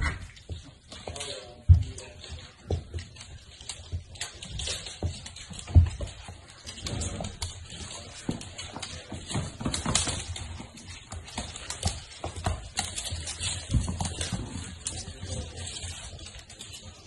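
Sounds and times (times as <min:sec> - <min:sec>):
claws clicking on a hard floor: 0:00.0 - 0:17.0.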